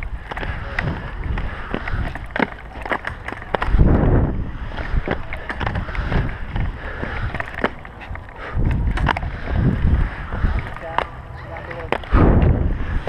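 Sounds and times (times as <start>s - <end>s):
skate wheels rumbling on concrete: 0.0s - 13.0s
wind on microphone: 0.0s - 13.0s.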